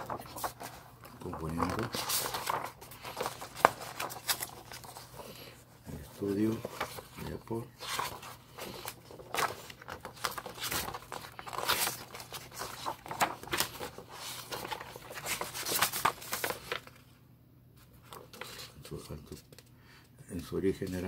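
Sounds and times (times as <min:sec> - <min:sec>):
plastic and paper crinkling: 0:00.0 - 0:17.0, 0:17.9 - 0:19.7.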